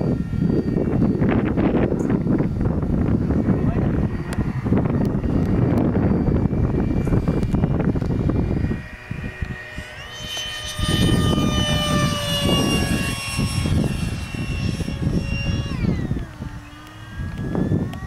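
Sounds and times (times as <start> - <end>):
electric ducted fan whining: 0.0 - 18.0
wind rumbling on microphone: 0.0 - 18.0.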